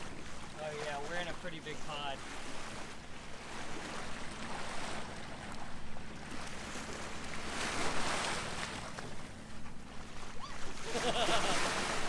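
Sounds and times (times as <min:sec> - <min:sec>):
water rushing along hull: 0:00.0 - 0:12.0.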